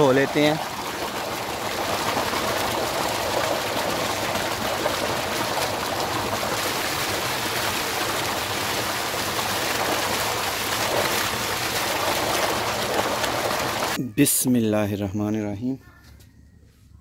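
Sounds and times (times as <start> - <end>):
water gushing into concrete tank: 0.0 - 14.0.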